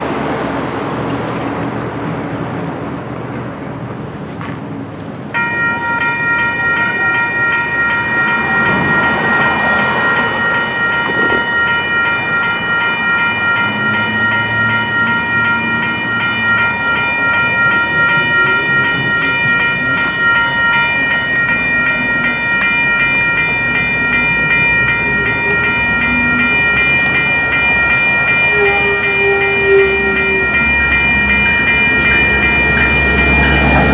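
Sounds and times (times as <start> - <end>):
low rumble of train: 0.0 - 33.9
railroad crossing electronic bell: 5.2 - 33.9
high wavering squeal: 5.4 - 33.9.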